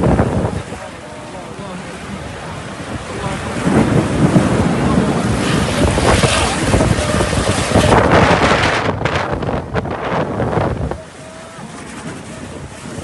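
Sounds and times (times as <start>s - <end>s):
rainstorm: 0.0s - 13.0s
wind buffeting microphone: 0.0s - 13.0s.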